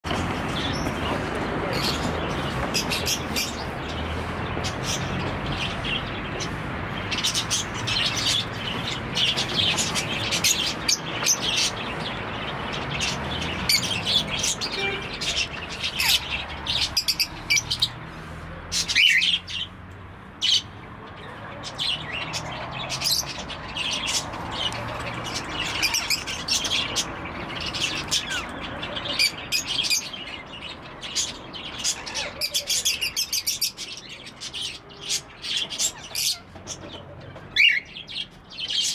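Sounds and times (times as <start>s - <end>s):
parrots chirping and calling: 0.1s - 19.8s, 20.4s - 38.9s.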